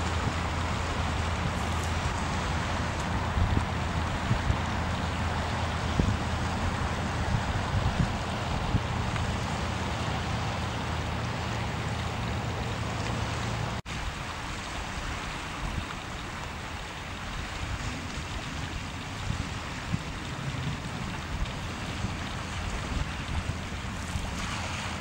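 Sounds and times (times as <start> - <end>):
choppy river water: 0.0 - 25.0
wind: 0.0 - 25.0.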